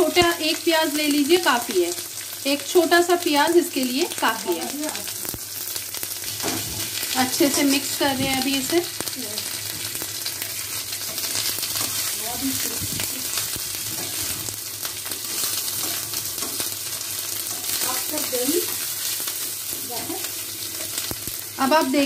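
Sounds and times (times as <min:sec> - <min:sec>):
onions sizzling in oil: 0:00.0 - 0:22.0.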